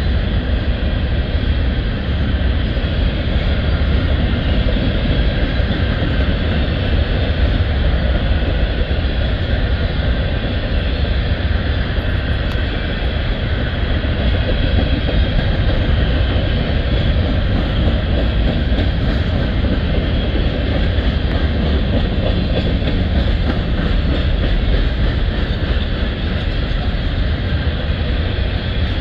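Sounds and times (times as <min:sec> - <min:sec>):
freight train wheels rumbling on rail: 0:00.0 - 0:29.0.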